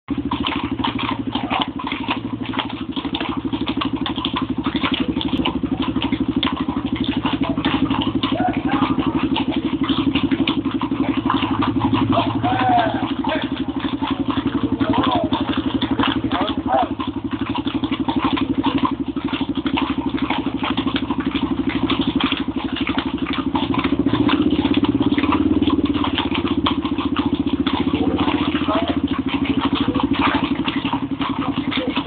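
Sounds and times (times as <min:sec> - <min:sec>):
horse hooves on cobblestones: 0:00.0 - 0:32.0.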